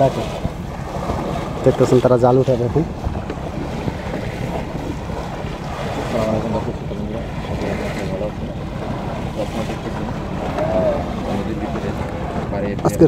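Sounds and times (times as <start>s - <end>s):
water sloshing and splashing: 0.0s - 13.0s
wind on microphone: 0.0s - 13.0s.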